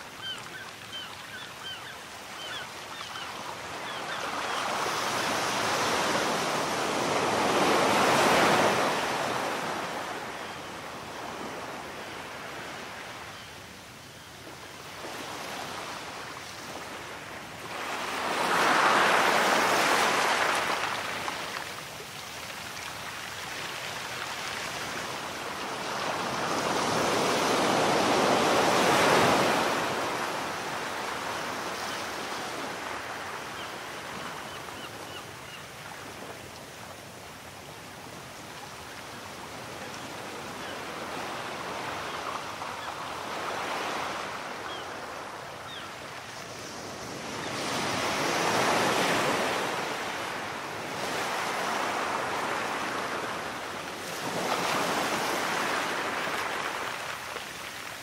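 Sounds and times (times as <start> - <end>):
waves breaking on beach: 0.0 - 13.4, 14.8 - 58.0.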